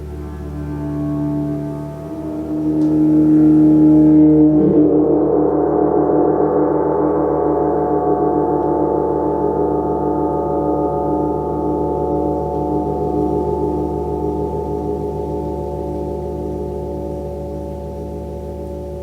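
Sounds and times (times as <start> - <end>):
gong sounding: 0.0 - 18.6.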